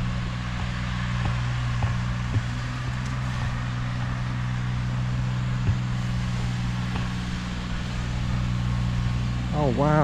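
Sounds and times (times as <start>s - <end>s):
vehicle engine low hum: 0.0s - 10.0s.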